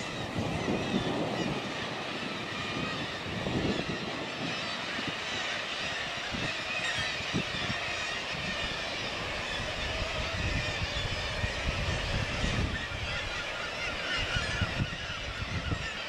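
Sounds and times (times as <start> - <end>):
seabird colony calling: 0.0 - 16.0
wind rumbling on microphone: 0.0 - 16.0.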